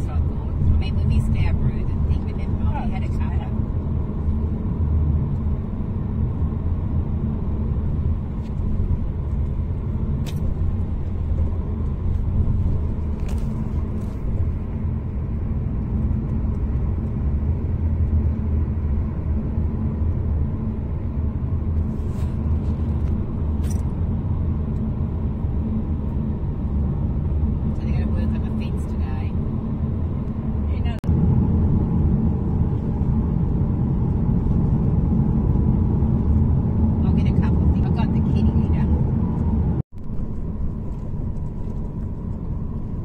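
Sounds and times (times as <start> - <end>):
road and engine rumble in car: 0.0 - 43.0.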